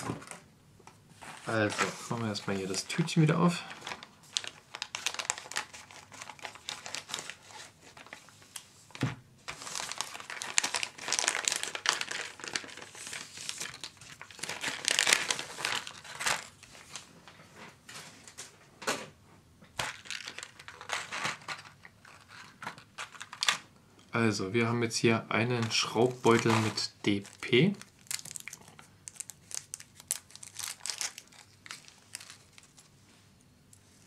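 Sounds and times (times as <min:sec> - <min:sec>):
plastic bag and trays crinkling: 0:01.2 - 0:17.1, 0:19.8 - 0:23.7, 0:25.4 - 0:34.0.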